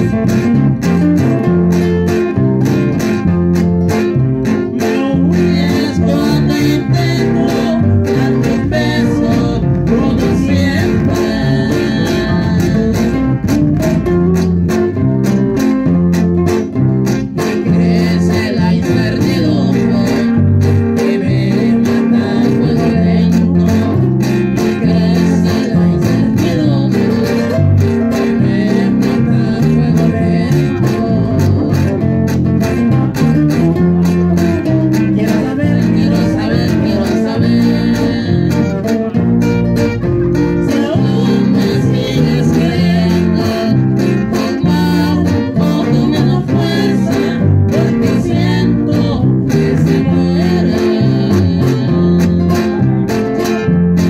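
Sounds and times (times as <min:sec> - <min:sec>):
acoustic guitars: 0:00.0 - 0:54.0
electric bass line: 0:00.0 - 0:54.0.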